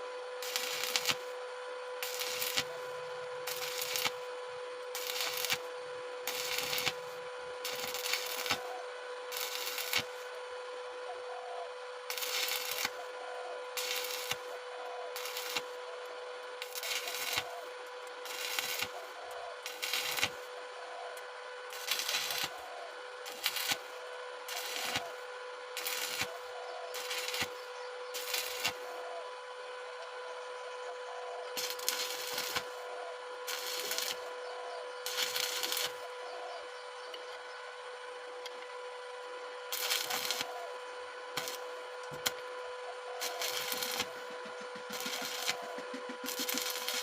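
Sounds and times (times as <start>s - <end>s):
welding arc crackling: 0.0s - 1.4s, 2.0s - 10.4s, 12.0s - 29.0s, 31.5s - 34.4s, 35.0s - 36.1s, 39.7s - 47.0s
steady hum: 0.0s - 47.0s.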